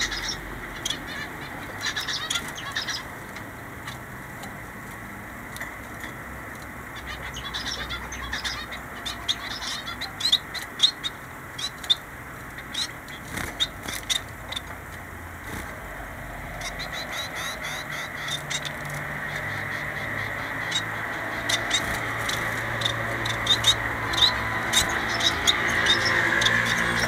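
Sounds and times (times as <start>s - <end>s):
finches chirping: 0.0s - 4.1s, 6.0s - 27.0s.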